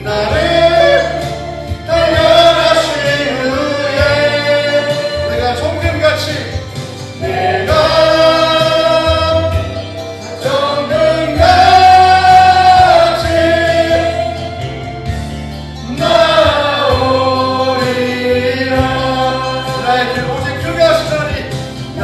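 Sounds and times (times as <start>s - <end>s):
group singing worship song: 0.0s - 22.0s.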